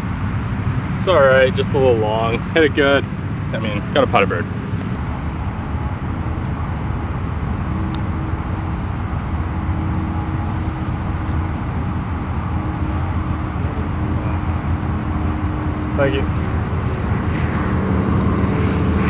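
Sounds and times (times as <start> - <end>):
faint hum: 0.0 - 19.0
low outdoor rumble: 0.0 - 19.0.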